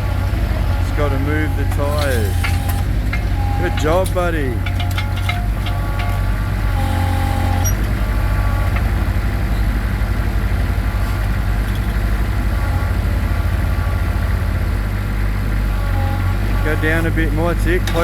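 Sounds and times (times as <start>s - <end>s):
excavator engine chugging: 0.0s - 18.0s.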